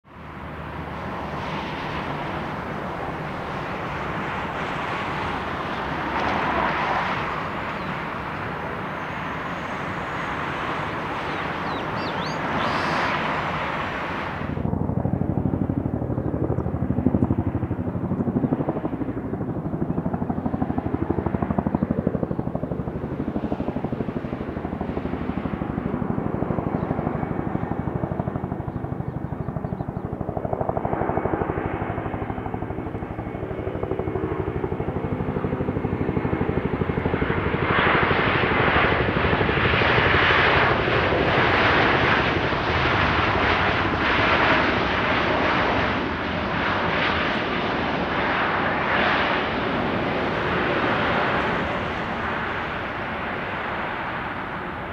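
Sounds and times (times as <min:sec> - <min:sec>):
jet aircraft engines: 0:00.0 - 0:54.9.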